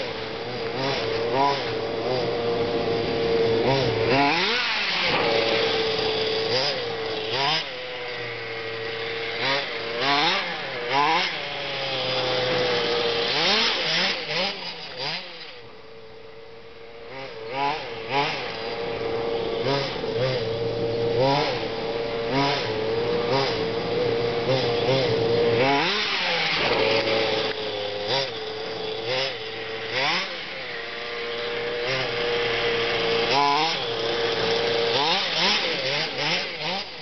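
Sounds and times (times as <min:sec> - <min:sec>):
small two-stroke engine revving: 0:00.0 - 0:37.0.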